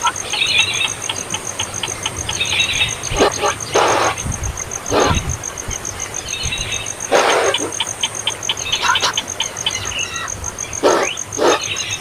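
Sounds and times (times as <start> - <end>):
baby bird begging calls: 0.0 - 12.0.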